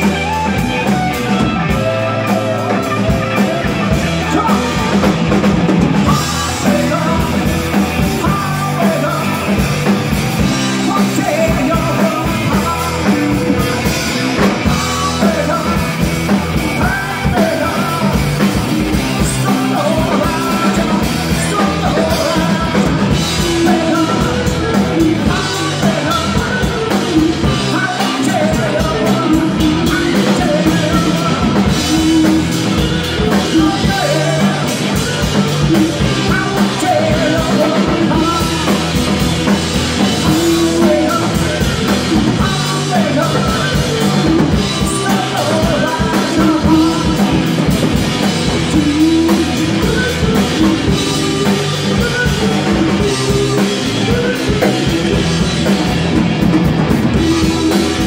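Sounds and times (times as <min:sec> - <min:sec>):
lead vocals: 0:00.0 - 0:58.0
live rock band: 0:00.0 - 0:58.0.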